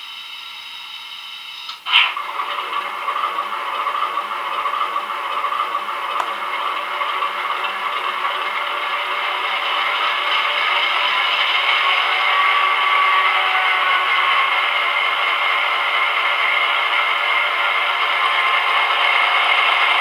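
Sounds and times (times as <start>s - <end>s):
diesel engine through small speaker: 1.9s - 20.0s.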